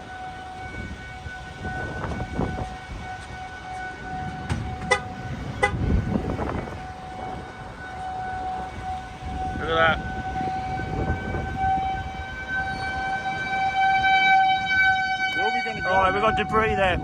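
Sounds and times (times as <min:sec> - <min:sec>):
warning siren steady tone: 0:00.0 - 0:17.0
wind rumbling on microphone: 0:00.0 - 0:17.0.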